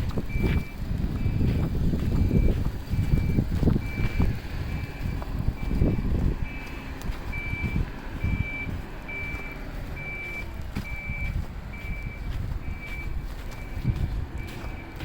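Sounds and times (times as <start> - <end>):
low engine rumble: 0.0 - 15.0
reversing alarm beeping: 0.1 - 15.0.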